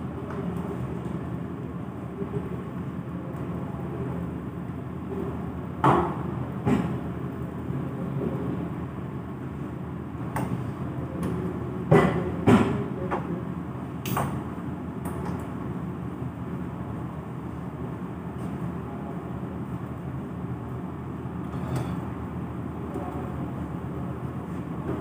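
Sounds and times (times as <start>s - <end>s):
low kitchen hum: 0.0s - 25.0s.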